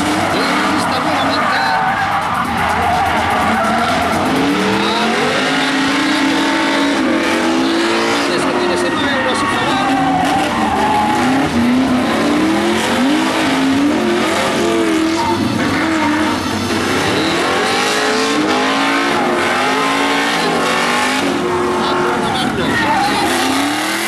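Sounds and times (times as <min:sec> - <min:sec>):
car engines revving: 0:00.0 - 0:24.0
tyre squeal: 0:00.0 - 0:24.0.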